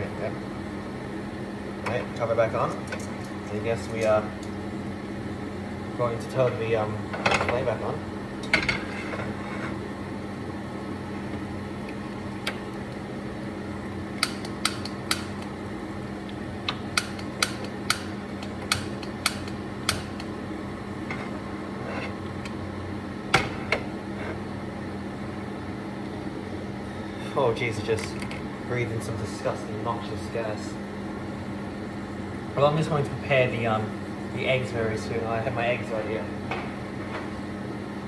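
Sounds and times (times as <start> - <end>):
steady hum: 0.0 - 38.0.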